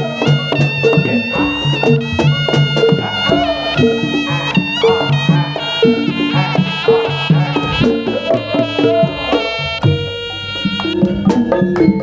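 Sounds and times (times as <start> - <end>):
gong and drum strokes: 0.0 - 12.0
shawm reedy melody: 0.0 - 12.0.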